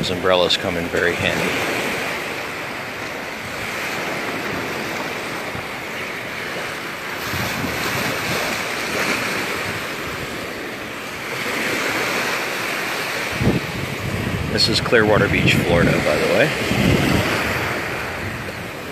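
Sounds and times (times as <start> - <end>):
small surf waves breaking on sand: 0.0 - 18.9
wind buffeting microphone: 0.0 - 18.9.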